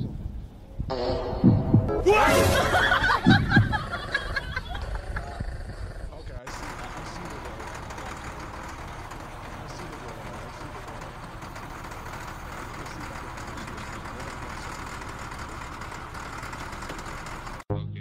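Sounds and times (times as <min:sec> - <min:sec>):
diesel engine idling: 0:02.8 - 0:17.7.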